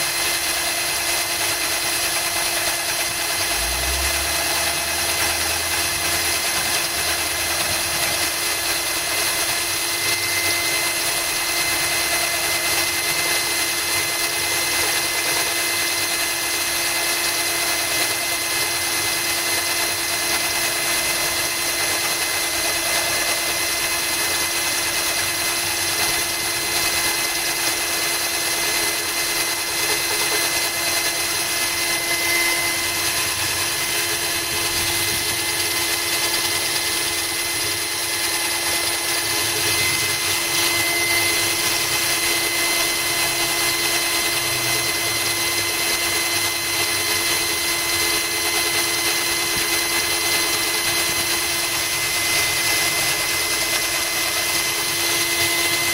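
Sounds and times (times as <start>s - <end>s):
drill whining: 0.0s - 55.9s.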